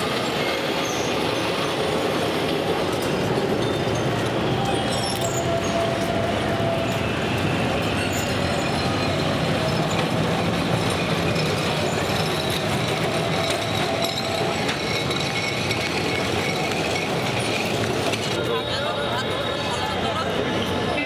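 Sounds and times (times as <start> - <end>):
tram wheels on rails: 0.0 - 21.0.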